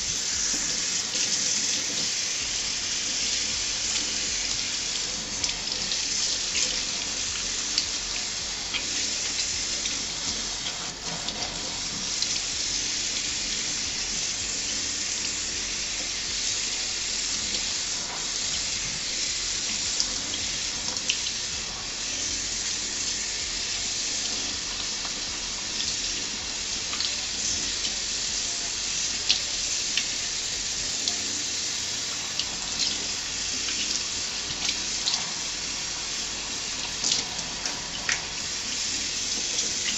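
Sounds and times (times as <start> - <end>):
faucet running into sink: 0.0 - 39.9.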